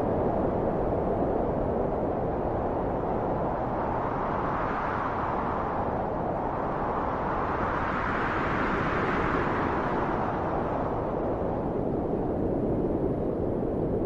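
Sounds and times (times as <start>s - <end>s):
rushing wind: 0.0s - 14.0s.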